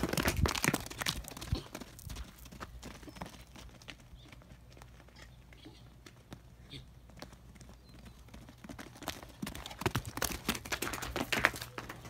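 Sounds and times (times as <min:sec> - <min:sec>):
donkey hoofbeats: 0:00.0 - 0:12.0.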